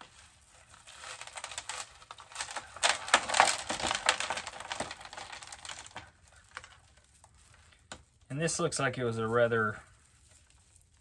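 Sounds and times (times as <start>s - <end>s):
plastic pot crackling: 0.0s - 11.0s.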